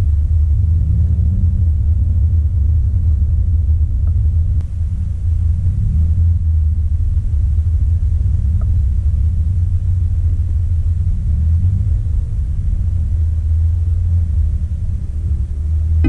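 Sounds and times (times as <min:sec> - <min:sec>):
car engine rumble from inside: 0:00.0 - 0:16.0.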